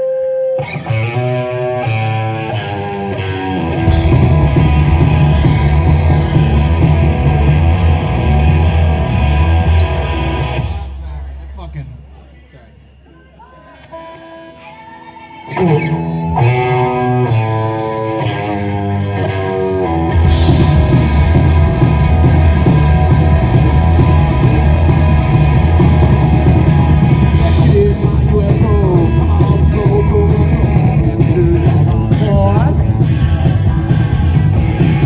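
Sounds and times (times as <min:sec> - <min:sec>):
electric guitar riff: 0:00.0 - 0:11.6, 0:13.4 - 0:35.0
metal band playing live: 0:00.6 - 0:12.1, 0:15.4 - 0:35.0.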